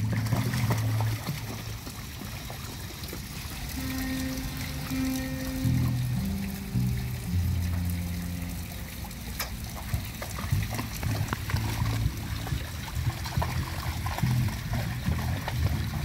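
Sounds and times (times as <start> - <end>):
background music with bass line: 0.0 - 1.4, 3.8 - 16.0
water splashing and sloshing: 0.0 - 16.0.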